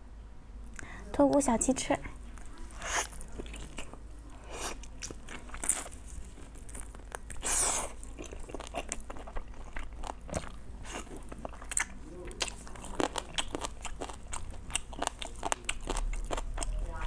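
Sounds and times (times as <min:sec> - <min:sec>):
biting and chewing: 0:02.2 - 0:17.0.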